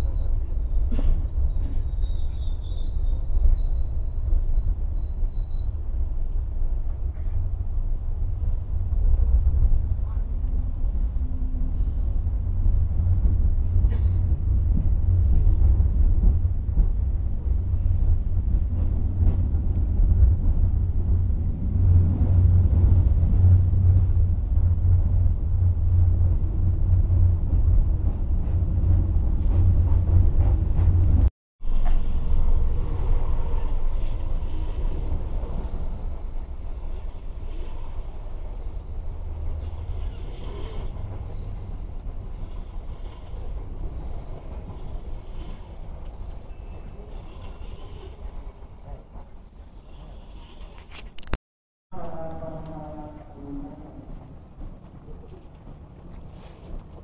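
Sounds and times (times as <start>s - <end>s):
train rumbling along track: 0.0s - 51.3s, 51.9s - 57.0s.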